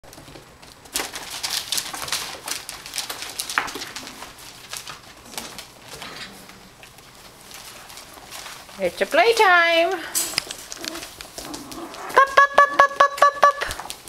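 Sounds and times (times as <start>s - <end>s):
puppies claws clicking and scratching: 0.0s - 14.0s.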